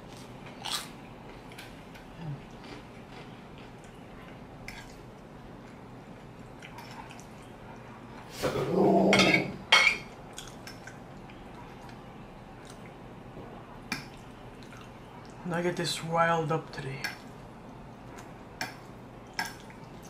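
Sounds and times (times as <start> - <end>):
soft chewing: 0.0 - 8.3, 10.1 - 15.4, 17.0 - 20.0.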